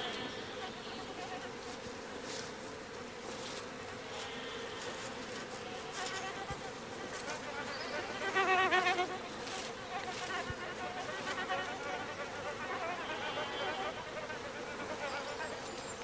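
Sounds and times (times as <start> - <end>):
bees buzzing in flight: 0.0 - 16.0.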